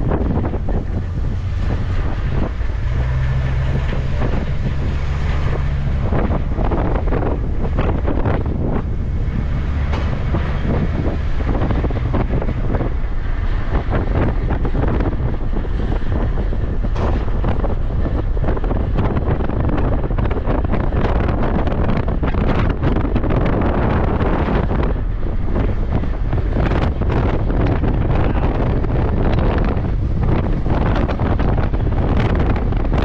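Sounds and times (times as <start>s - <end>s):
low rumble: 0.0s - 33.0s
wind buffeting microphone: 0.0s - 33.0s.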